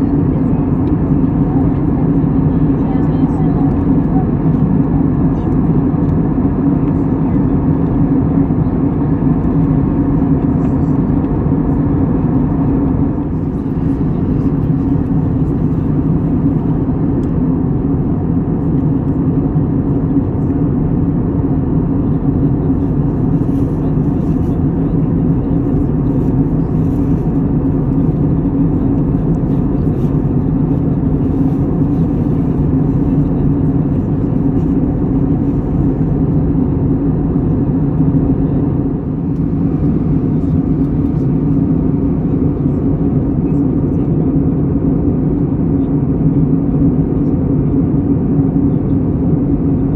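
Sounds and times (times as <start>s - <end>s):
low engine drone: 0.0s - 49.9s.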